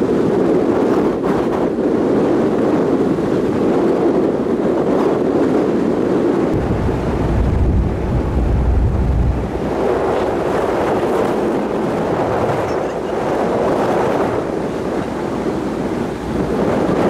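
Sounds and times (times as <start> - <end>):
churning wake: 0.0 - 17.0
rushing wind: 0.0 - 17.0
wind buffeting microphone: 0.0 - 17.0.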